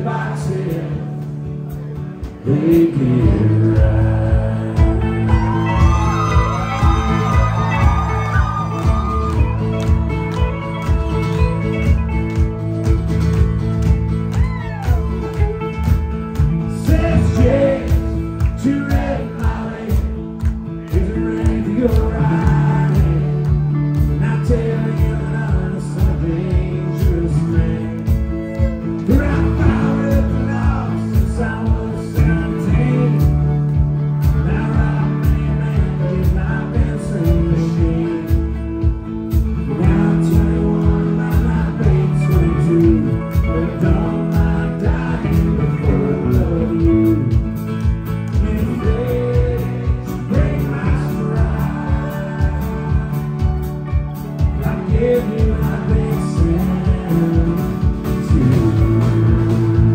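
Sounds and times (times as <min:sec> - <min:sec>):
bass: 0:00.0 - 0:59.9
drums: 0:00.0 - 0:59.9
strummed acoustic guitar: 0:00.0 - 0:59.9.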